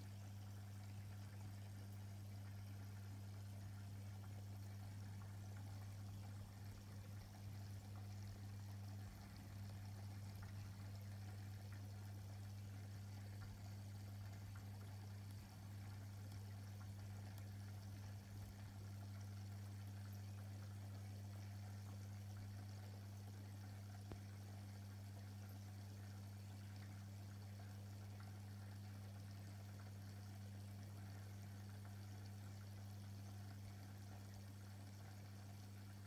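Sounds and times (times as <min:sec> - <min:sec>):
aquarium pump humming: 0:00.0 - 0:36.0
water trickling: 0:00.0 - 0:36.0.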